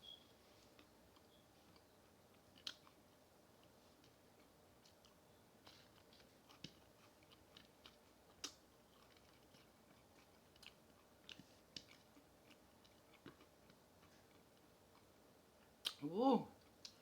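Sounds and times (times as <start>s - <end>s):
chewing fried food: 0.4s - 17.0s.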